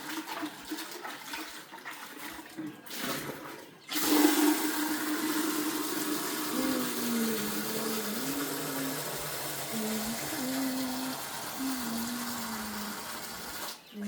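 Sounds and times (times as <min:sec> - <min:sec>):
water gushing: 0:00.0 - 0:13.9.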